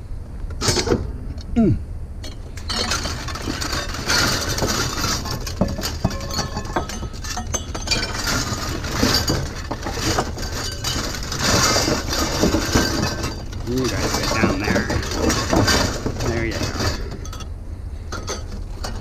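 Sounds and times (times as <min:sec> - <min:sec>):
steady low rumble: 0:00.0 - 0:19.0
scrap metal clanking: 0:00.6 - 0:01.1, 0:02.2 - 0:19.0.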